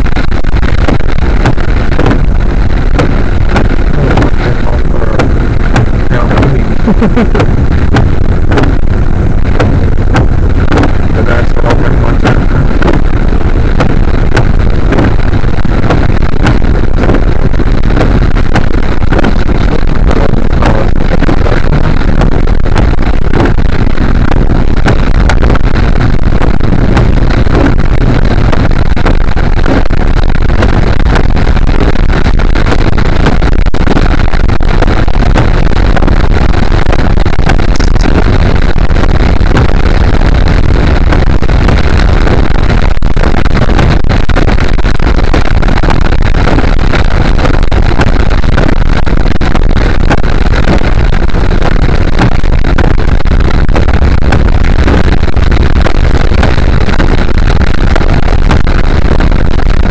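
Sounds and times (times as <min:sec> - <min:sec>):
car and tyres rumbling on wet road: 0:00.0 - 0:59.9.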